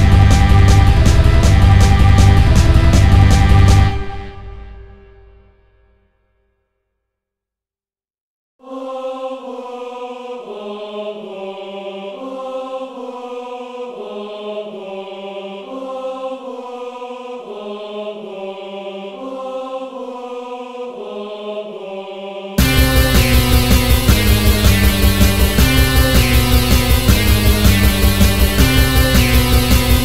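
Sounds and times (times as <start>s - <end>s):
sustained choir-like chords: 0.0s - 4.9s, 8.6s - 30.0s.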